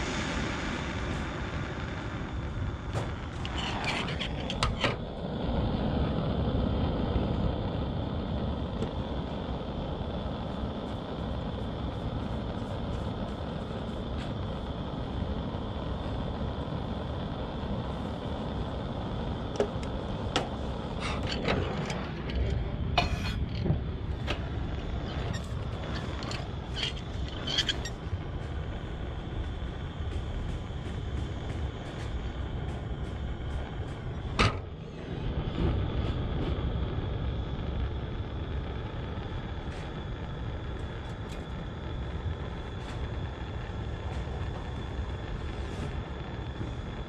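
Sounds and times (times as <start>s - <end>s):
steady rumbling noise: 0.0s - 47.0s.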